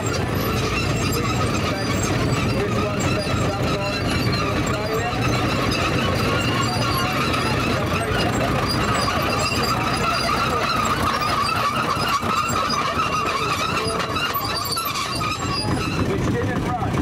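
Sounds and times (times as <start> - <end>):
high wavering squeal: 0.0 - 16.2
tractor engines droning: 0.0 - 17.0.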